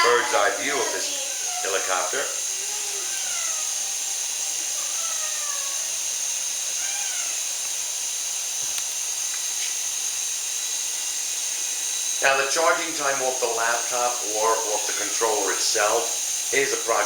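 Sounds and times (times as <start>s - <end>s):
toy helicopter motor whine: 0.0s - 17.0s.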